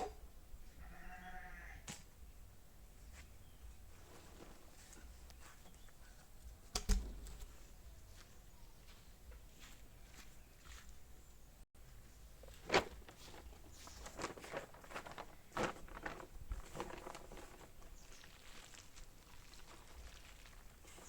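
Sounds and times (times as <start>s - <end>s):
footsteps and scuffing: 3.0s - 21.0s.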